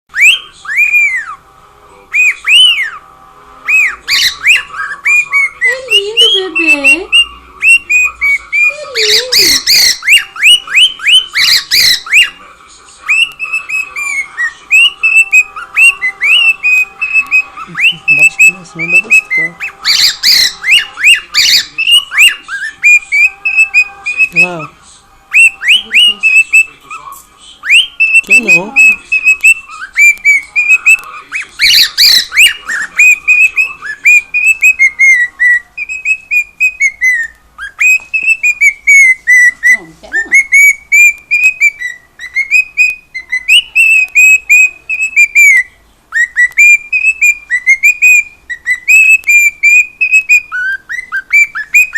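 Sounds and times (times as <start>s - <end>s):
cockatiel whistling: 0.1s - 1.4s, 2.1s - 3.0s, 3.6s - 51.9s
harsh bird calls: 0.1s - 51.9s.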